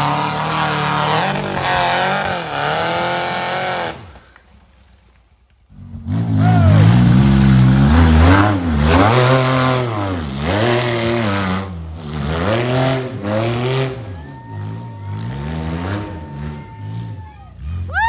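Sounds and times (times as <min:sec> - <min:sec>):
buggy engine revving hard: 0:00.0 - 0:04.2, 0:05.7 - 0:18.0.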